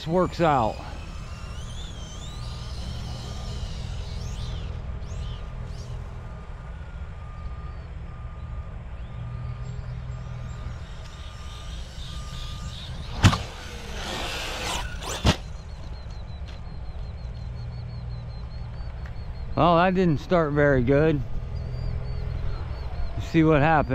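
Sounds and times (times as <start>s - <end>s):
toy truck motor and tyres: 0.0s - 23.9s.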